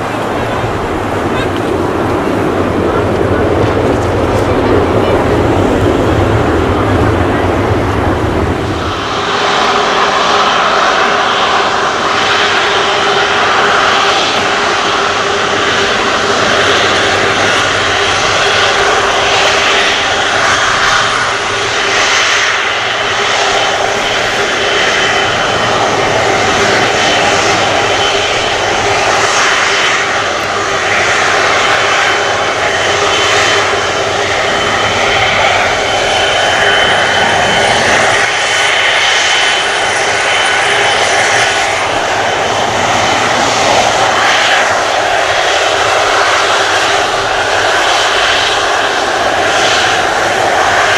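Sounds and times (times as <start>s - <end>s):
jet engines running: 0.0s - 50.9s.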